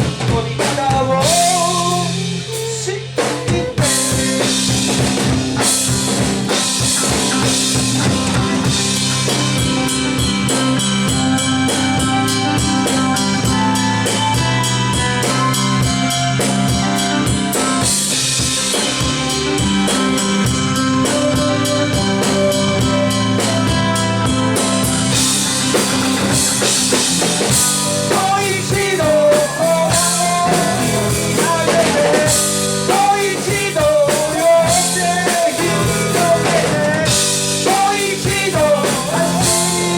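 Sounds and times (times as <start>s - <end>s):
rock band playing: 0.0s - 39.9s
wavering lead melody: 3.8s - 39.9s.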